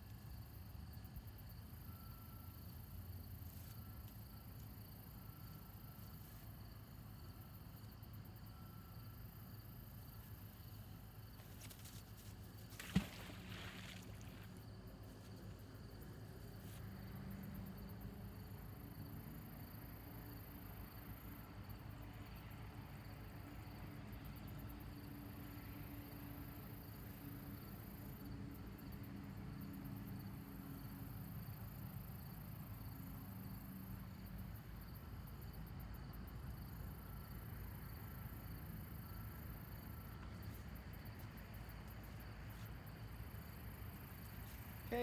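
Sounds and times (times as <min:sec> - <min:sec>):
insects trilling and chirping: 0:00.0 - 0:45.0.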